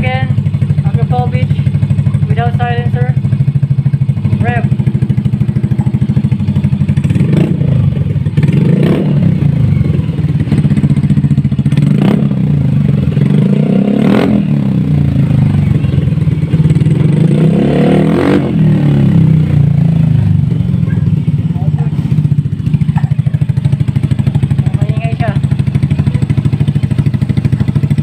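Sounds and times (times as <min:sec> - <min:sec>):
scooter engine revving: 0:00.0 - 0:28.0.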